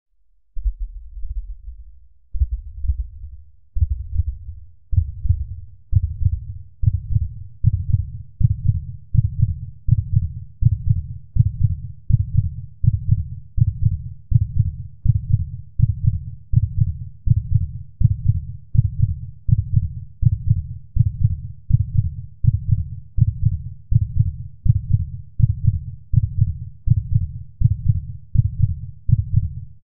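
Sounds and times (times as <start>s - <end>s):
heartbeat thumps: 0.6s - 29.6s.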